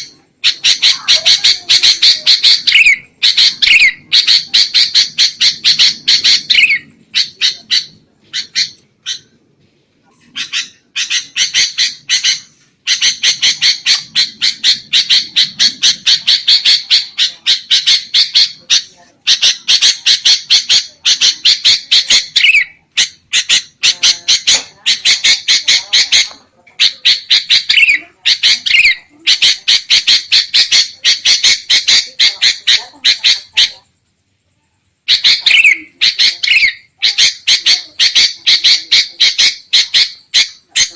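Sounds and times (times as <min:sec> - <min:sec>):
bulbuls chattering: 0:00.0 - 0:34.1, 0:34.8 - 0:40.9.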